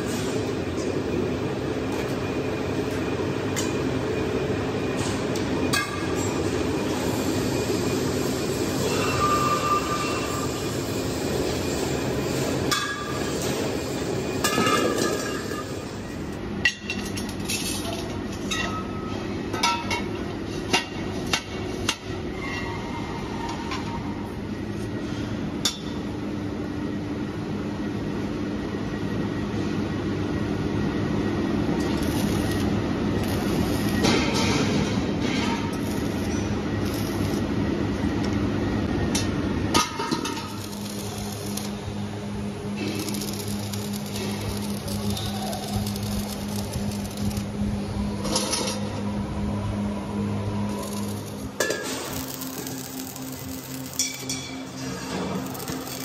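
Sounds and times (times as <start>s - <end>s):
steady machine noise: 0.0s - 18.4s, 26.2s - 56.0s.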